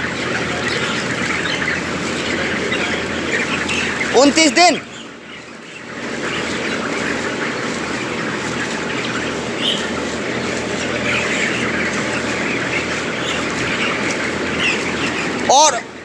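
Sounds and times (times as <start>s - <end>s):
chicken squawks: 0.0s - 16.0s
chickens chattering: 0.0s - 16.0s.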